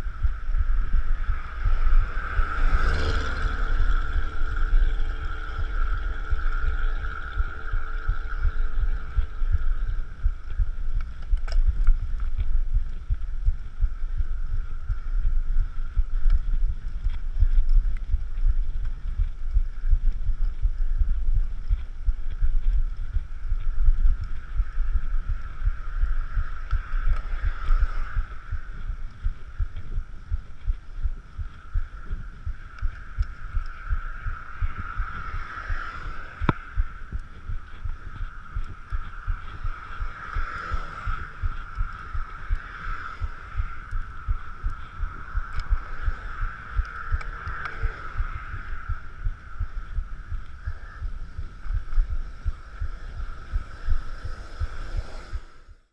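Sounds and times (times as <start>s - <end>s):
heartbeat thumps: 0.0s - 55.9s
steady higher hum: 0.0s - 55.9s.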